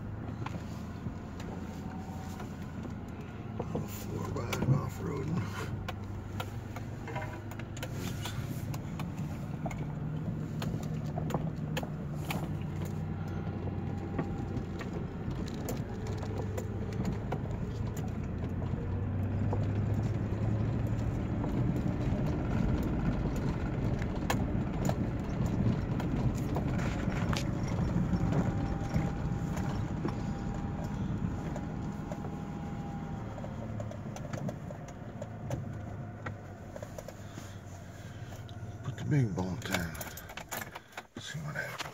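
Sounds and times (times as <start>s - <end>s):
tyres rolling over dirt: 0.0s - 41.9s
vehicle engine running: 0.0s - 41.9s
small clicks and rattles: 0.4s - 41.9s.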